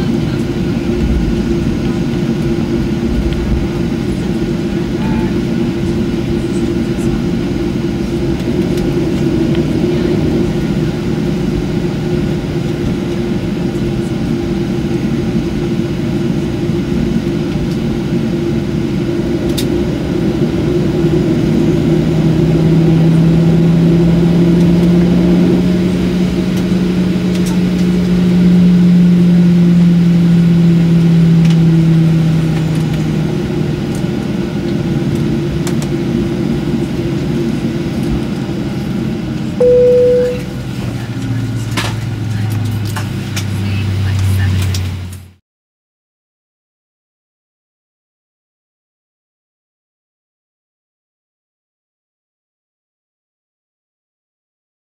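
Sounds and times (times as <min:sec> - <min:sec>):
jet engines humming in cabin: 0:00.0 - 0:45.4
low engine tone: 0:00.0 - 0:45.4.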